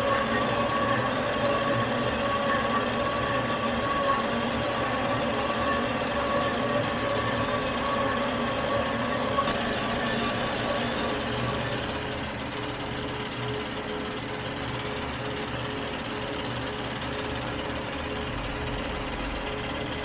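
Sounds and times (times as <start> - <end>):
metal lathe humming and whining: 0.0 - 20.0.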